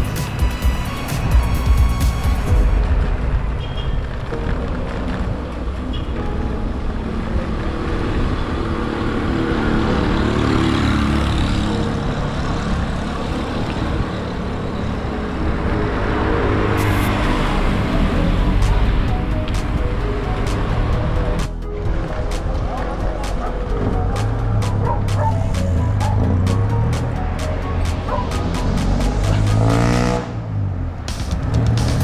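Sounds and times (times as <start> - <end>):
road traffic: 0.0 - 32.0
vehicle passing: 2.6 - 32.0.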